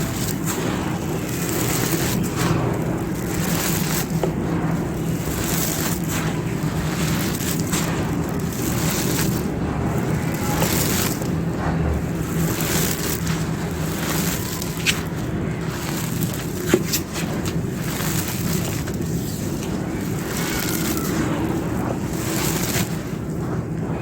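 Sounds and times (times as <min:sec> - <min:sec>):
sharp cracks: 0:00.0 - 0:23.4
dry clay crunching by hand: 0:00.0 - 0:23.8
low rumble: 0:00.0 - 0:24.0.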